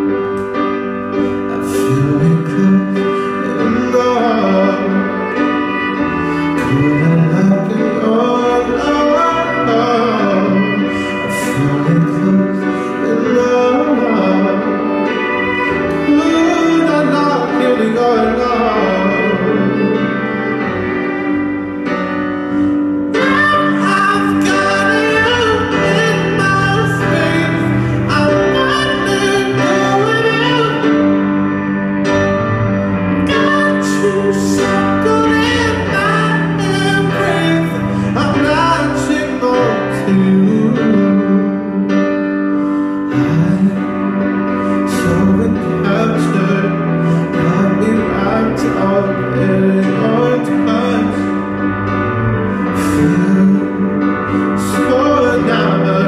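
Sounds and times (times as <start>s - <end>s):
man singing: 0.0s - 21.2s, 22.4s - 56.0s
bowed cello: 0.0s - 56.0s
guitar: 0.0s - 56.0s.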